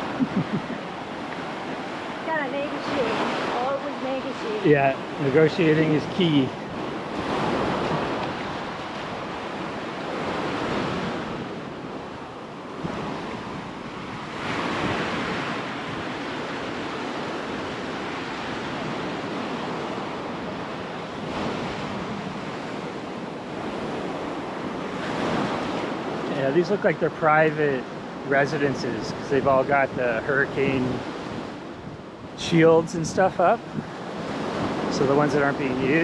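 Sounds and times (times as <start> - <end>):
wind on the microphone: 0.0 - 26.6, 27.6 - 36.0
ocean surf washing ashore: 0.0 - 36.0.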